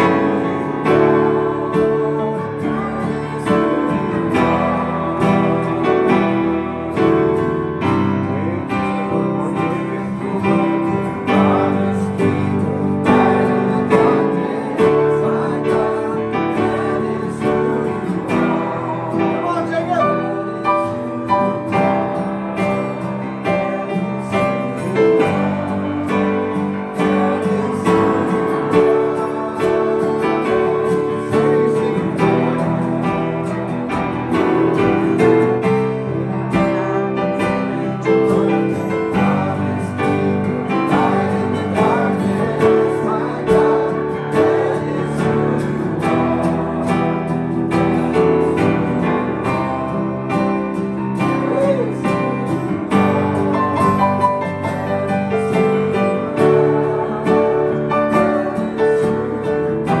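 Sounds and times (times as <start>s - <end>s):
acoustic guitar strumming: 0.0s - 60.0s
keyboard playing piano chords: 0.0s - 60.0s
voices singing along: 0.0s - 60.0s.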